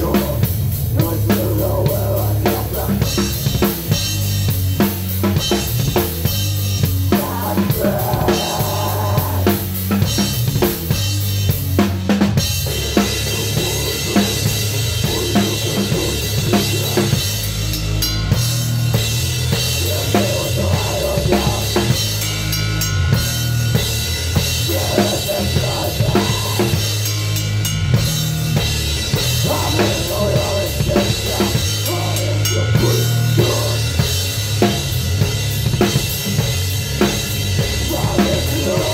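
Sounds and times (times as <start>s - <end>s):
drum kit driving beat: 0.0s - 38.9s.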